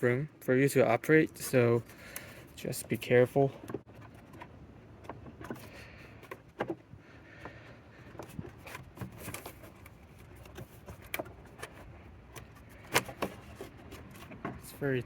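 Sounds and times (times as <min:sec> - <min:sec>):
light clicks and scrapes of plastic: 0:01.3 - 0:15.0.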